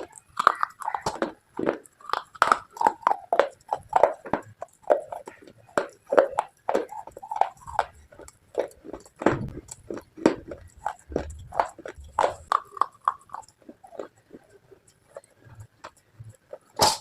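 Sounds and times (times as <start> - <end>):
person chewing crunchy pieces: 0.0 - 17.0.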